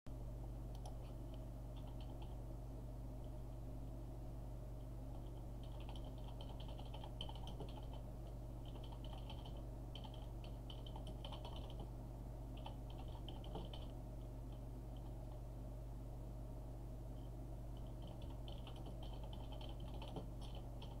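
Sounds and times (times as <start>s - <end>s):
low electrical hum: 0.1s - 21.0s.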